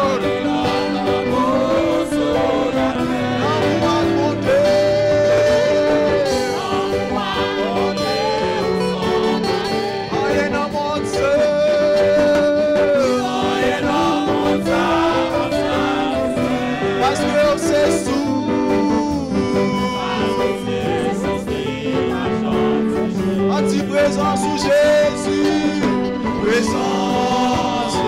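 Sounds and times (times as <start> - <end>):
instrumental accompaniment: 0.0 - 28.0
man singing a hymn: 0.0 - 28.0.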